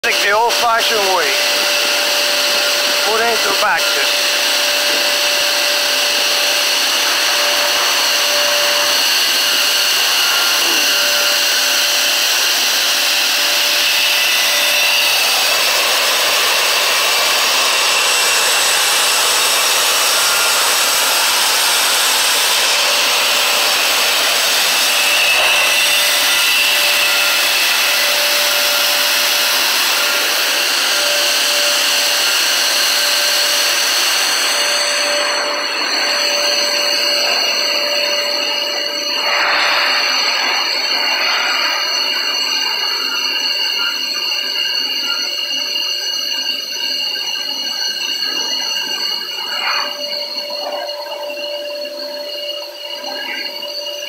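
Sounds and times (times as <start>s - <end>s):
high whine of conveying system: 0.0s - 54.0s.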